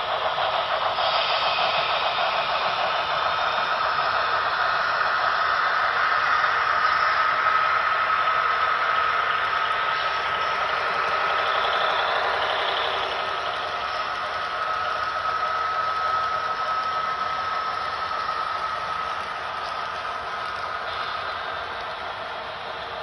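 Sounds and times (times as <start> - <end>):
high whine: 0.0 - 23.0
model train wheels rattling on rail: 0.0 - 23.0.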